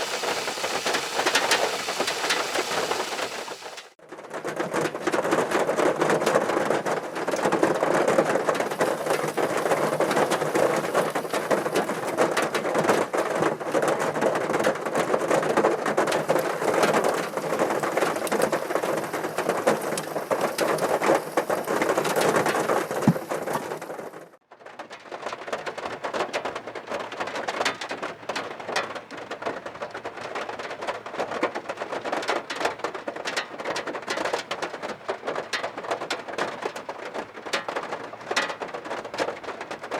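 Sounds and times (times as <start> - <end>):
heavy rain on a car: 0.0 - 4.0, 8.1 - 13.7, 14.6 - 24.0, 25.2 - 39.9.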